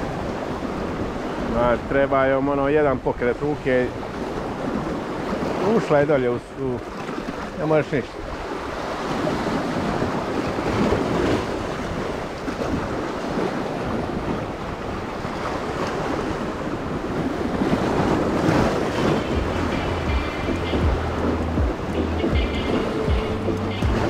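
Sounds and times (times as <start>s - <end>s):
surf washing over rocks: 0.0s - 24.0s
wind buffeting microphone: 0.0s - 24.0s.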